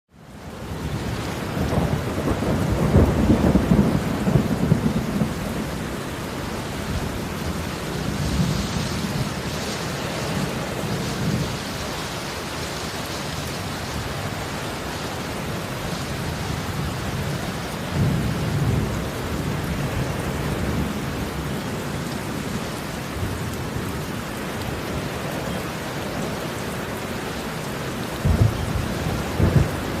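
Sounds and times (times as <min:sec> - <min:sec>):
heavy rain: 0:00.1 - 0:30.0
thunder rumbling: 0:00.5 - 0:26.4, 0:27.6 - 0:30.0.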